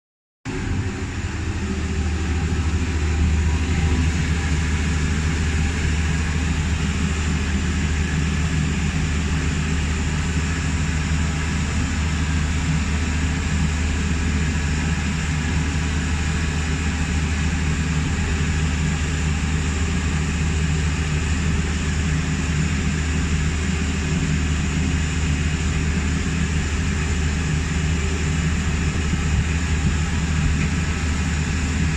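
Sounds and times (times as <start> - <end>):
low machinery drone: 0.5 - 31.9.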